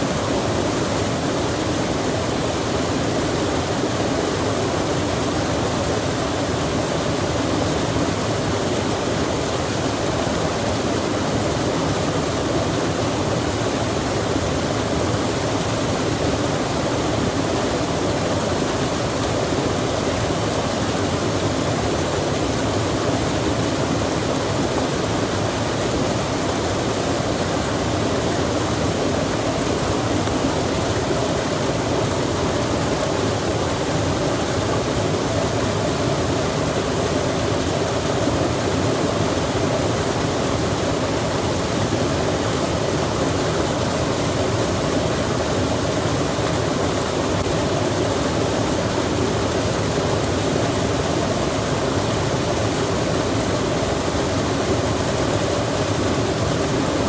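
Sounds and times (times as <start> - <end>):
steady rushing forest ambience: 0.0 - 57.0.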